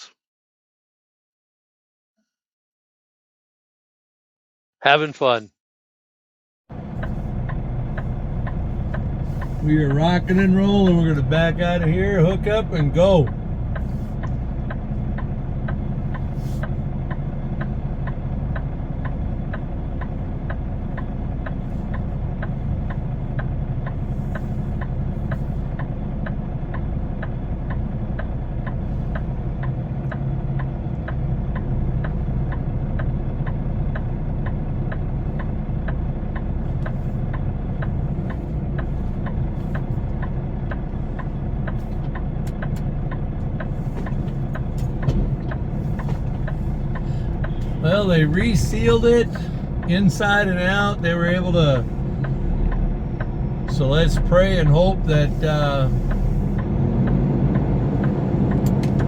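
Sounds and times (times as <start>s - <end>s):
diesel engine idling: 6.7s - 59.0s
fast regular ticking: 6.8s - 56.7s.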